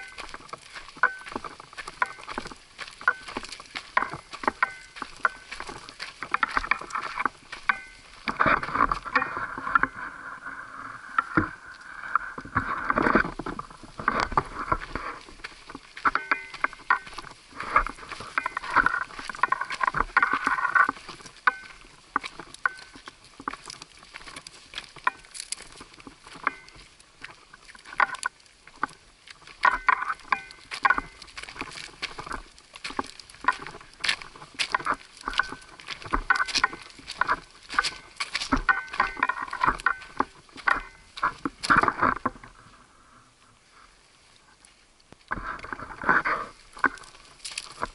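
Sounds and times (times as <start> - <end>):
gear clicks and rattles: 0.0 - 10.2, 11.1 - 42.7, 45.3 - 47.9
footsteps on gravelly trail: 0.0 - 43.0, 44.4 - 47.9
rustling and scuffing: 0.0 - 43.0, 43.8 - 47.9.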